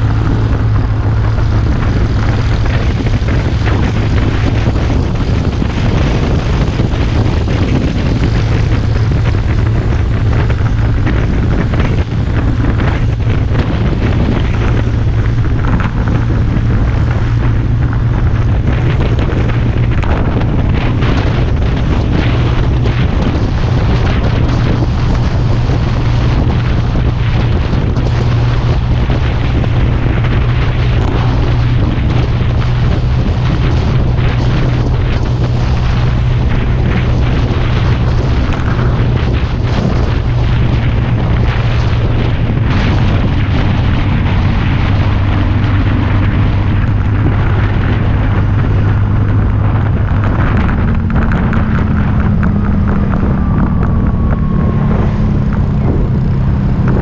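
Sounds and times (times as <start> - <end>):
scooter engine running: 0.0 - 57.0
wind buffeting microphone: 0.0 - 57.0.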